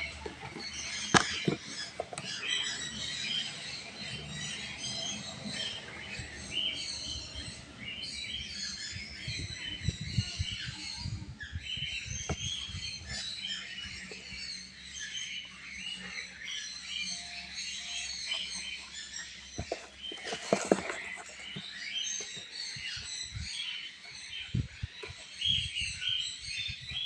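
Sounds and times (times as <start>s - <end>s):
parrot chicks chirping: 0.0s - 27.0s.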